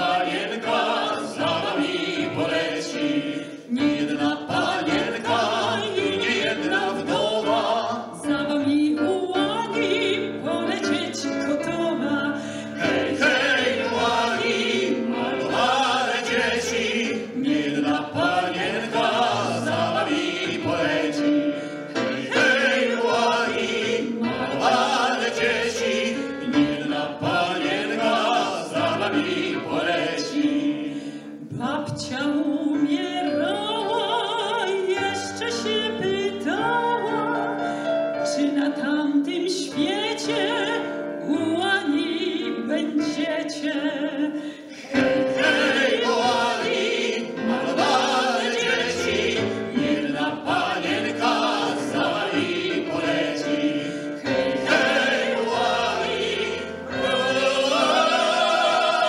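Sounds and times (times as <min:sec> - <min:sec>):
vocal quartet singing in harmony: 0:00.0 - 0:59.0.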